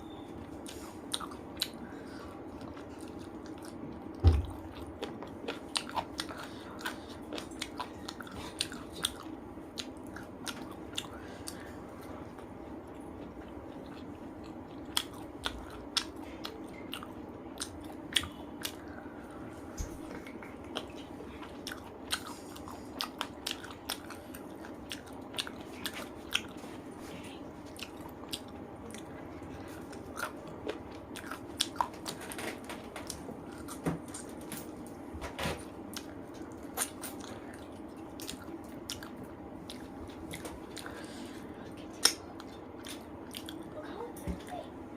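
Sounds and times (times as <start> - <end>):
chewing and biting food: 0.1 - 34.8, 35.7 - 43.7.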